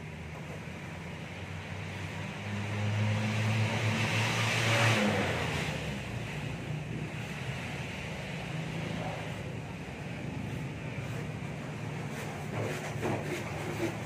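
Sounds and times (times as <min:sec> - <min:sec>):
vehicle driving past: 0:01.2 - 0:14.0.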